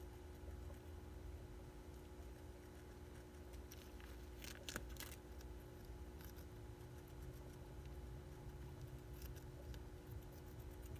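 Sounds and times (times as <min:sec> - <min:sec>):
hamster nibbling lettuce: 0:00.0 - 0:10.9.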